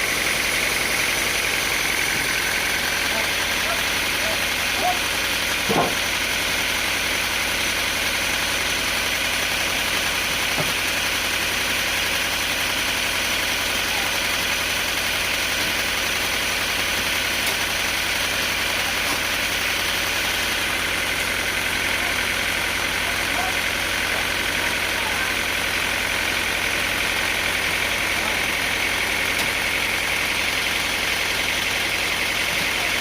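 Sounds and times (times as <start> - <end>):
sawmill machinery running: 0.0 - 33.0.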